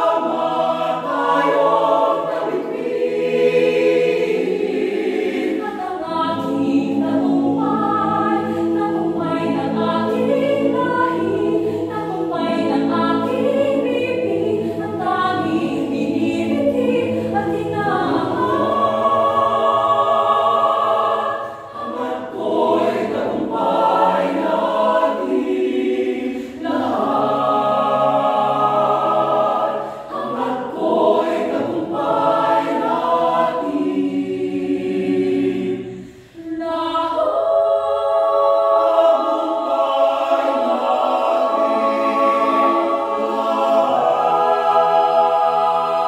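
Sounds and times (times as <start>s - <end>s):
choir singing a cappella: 0.0s - 46.0s.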